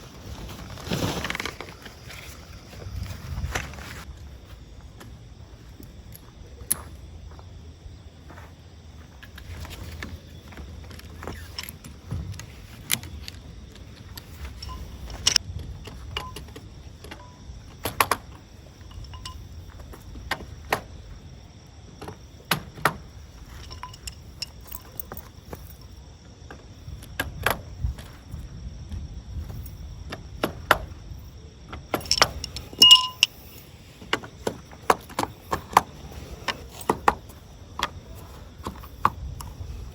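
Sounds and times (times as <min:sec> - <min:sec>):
camping gear clicking and clinking: 0:00.0 - 0:07.3, 0:08.9 - 0:39.9
faint insect drone: 0:00.0 - 0:39.9.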